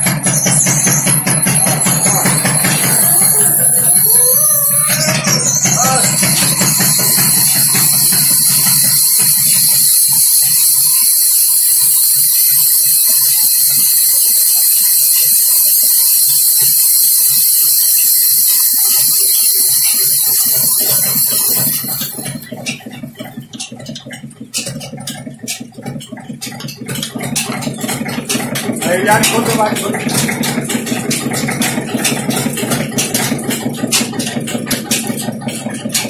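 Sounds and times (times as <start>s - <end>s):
band saw cutting log: 0.0s - 23.0s, 26.6s - 36.0s
machinery running: 0.0s - 36.0s.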